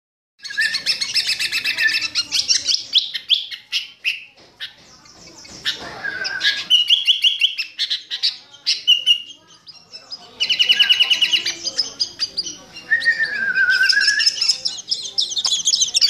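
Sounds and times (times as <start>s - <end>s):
bird chirping: 0.4s - 16.0s.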